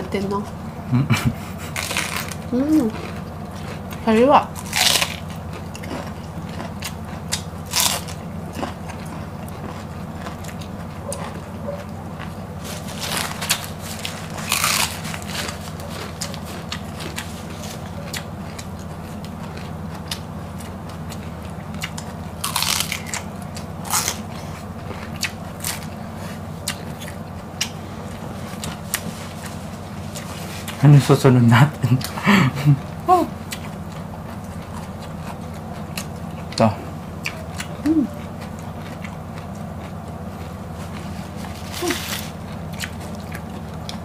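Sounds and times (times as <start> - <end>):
low hum: 0.0 - 44.0
crunching raw cabbage: 1.6 - 31.1, 33.5 - 44.0.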